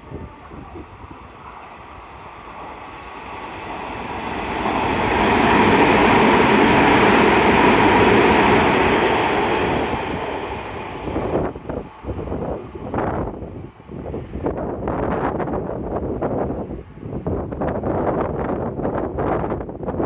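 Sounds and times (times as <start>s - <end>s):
electric train passing: 0.0s - 19.6s.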